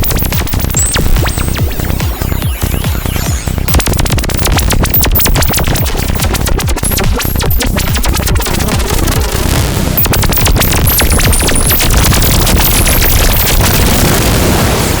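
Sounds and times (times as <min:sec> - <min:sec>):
high synthesizer chirps: 0:00.0 - 0:14.2
glitchy synthesizer clicks: 0:00.0 - 0:14.3.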